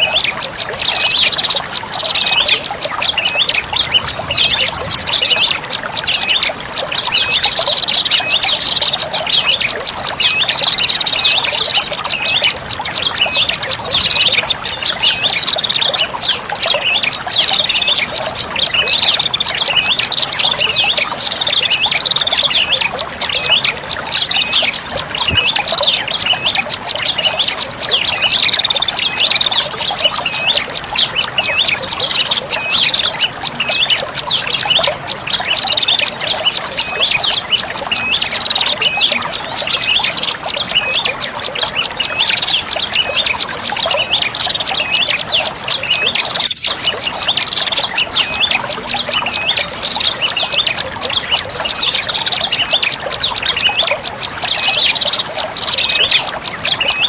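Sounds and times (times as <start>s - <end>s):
bird call chattering: 0.0s - 57.0s.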